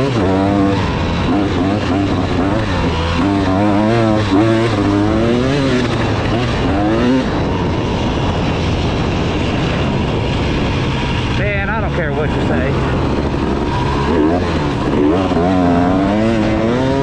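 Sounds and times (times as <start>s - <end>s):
two-stroke dirt bike engine: 0.0s - 17.0s.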